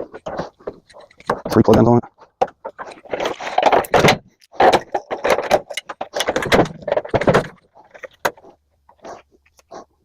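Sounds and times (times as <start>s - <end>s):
metal parts clattering and clanking: 0.0s - 8.5s.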